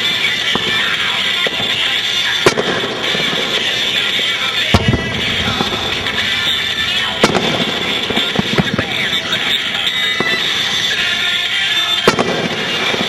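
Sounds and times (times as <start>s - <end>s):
dense noisy background: 0.0s - 13.0s
fireworks bangs: 0.0s - 13.0s.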